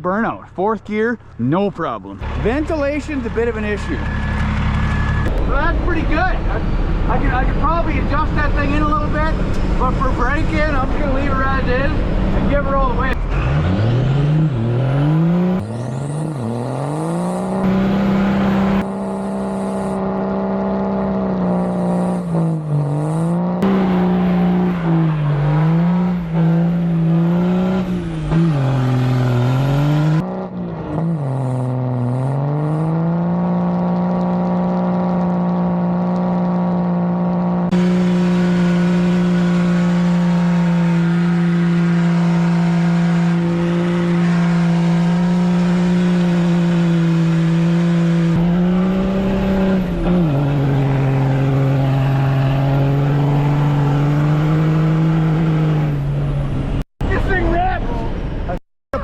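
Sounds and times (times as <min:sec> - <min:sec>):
car engine revving: 0:02.0 - 0:58.0.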